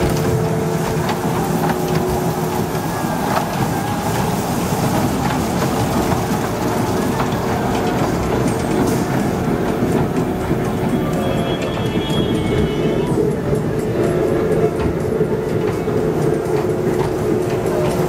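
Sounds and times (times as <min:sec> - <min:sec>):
small train rumbling: 0:00.0 - 0:18.0
wheels clicking over rail joints: 0:00.0 - 0:18.0.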